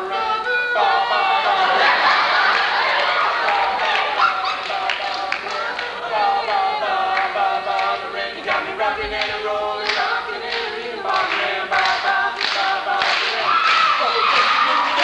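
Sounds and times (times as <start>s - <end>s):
male voices singing a cappella: 0.0s - 15.0s.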